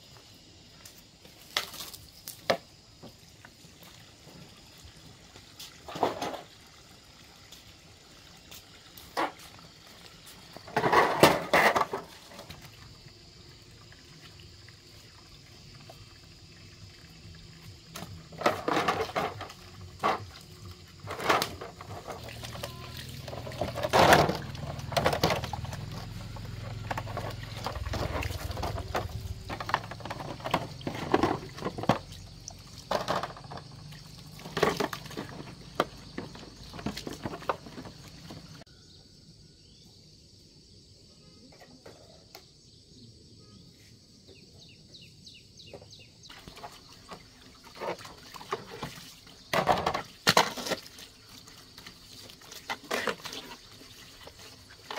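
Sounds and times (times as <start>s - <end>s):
hose water splashing on plastic: 0.7s - 38.6s, 46.3s - 54.9s.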